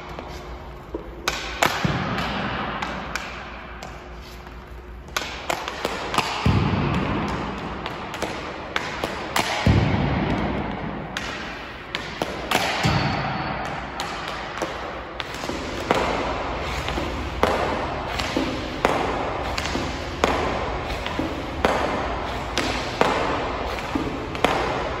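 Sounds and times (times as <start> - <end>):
hockey pucks clacking off rebounders: 0.0 - 4.2, 5.0 - 25.0.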